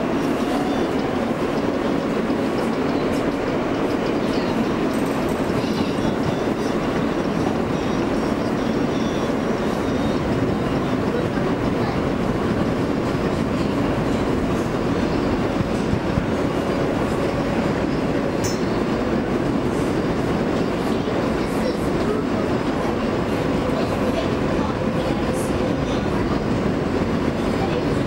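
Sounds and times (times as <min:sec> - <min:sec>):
subway wheels rumbling on rails: 0:00.0 - 0:28.0.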